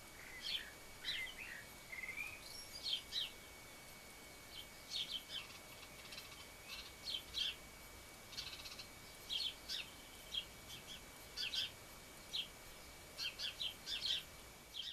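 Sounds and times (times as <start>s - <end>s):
buzzy bird trills: 0.0s - 14.9s
small birds chirping: 0.0s - 14.9s.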